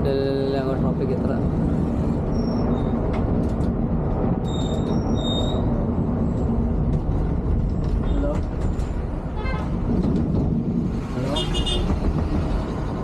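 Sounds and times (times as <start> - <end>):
coach engine and tyres rumbling: 0.0 - 13.0.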